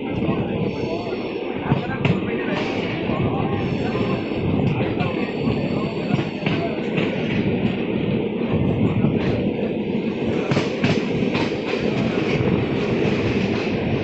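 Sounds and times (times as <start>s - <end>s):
rumble of wheels on rails: 0.0s - 14.0s.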